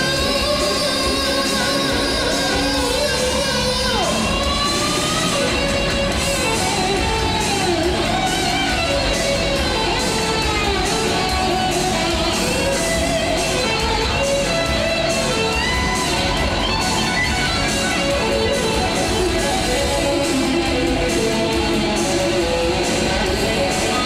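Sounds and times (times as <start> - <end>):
bending melodic guitar line: 0.0 - 24.0
hard rock band playing live: 0.0 - 24.0.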